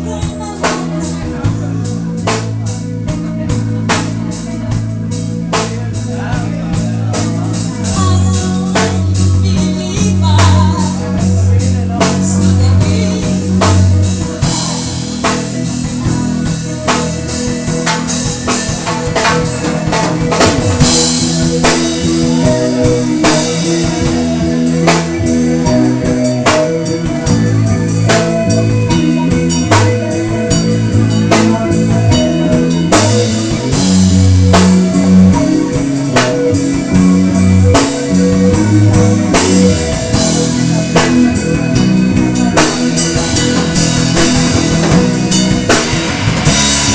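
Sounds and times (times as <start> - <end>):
bass guitar: 0.0 - 46.9
drum kit steady beat: 0.0 - 46.9
electric guitar: 0.0 - 46.9.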